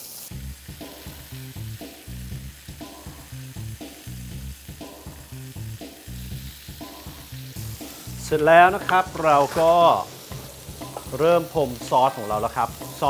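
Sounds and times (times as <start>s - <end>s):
meat sizzling on grill pan: 0.0s - 13.0s
music with bass beat: 0.3s - 13.0s.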